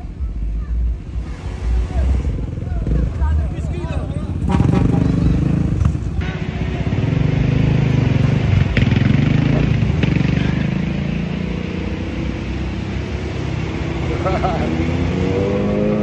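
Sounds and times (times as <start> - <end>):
engines rumbling in slow traffic: 0.0 - 16.0.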